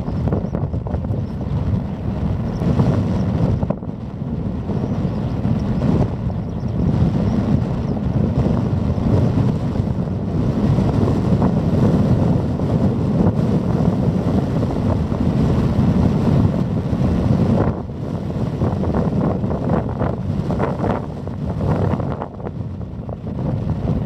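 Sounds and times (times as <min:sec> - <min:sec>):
wind buffeting the microphone: 0:00.0 - 0:24.0.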